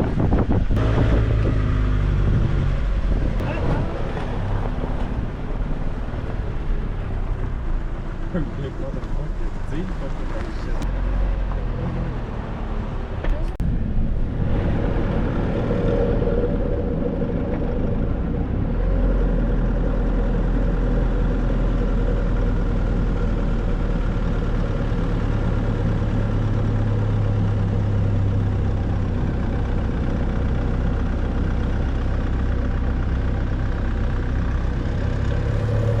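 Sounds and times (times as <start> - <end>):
car engine droning steadily: 0.0 - 36.0.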